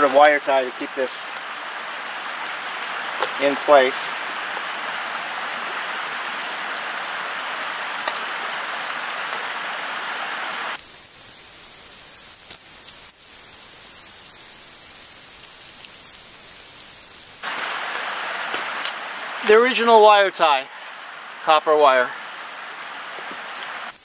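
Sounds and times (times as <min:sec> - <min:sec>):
running water hissing: 0:00.0 - 0:24.0.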